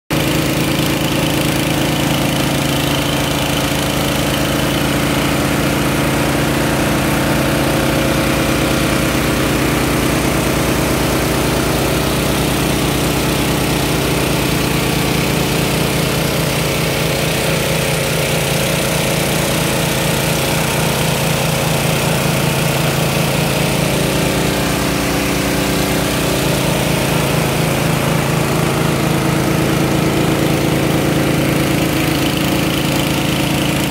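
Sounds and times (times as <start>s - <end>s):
small engine running steadily: 0.1s - 33.9s.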